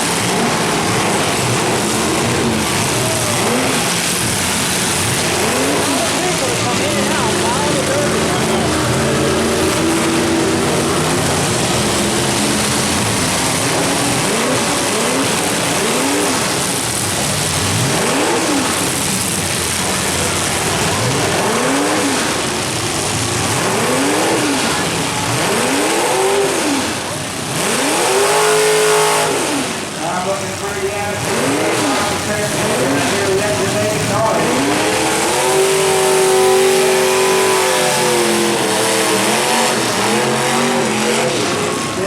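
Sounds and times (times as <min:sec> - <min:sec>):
truck engines revving: 0:00.0 - 0:42.0.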